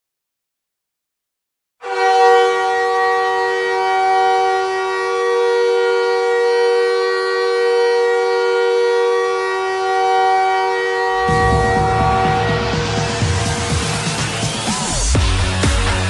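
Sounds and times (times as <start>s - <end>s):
air horn chord: 1.8s - 15.3s.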